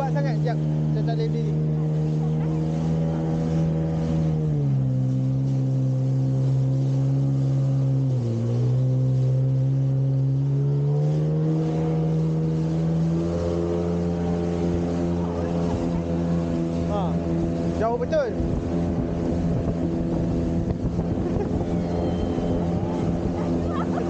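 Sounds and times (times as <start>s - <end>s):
jet ski engine running: 0.0s - 24.0s
water spraying off hull: 0.0s - 24.0s.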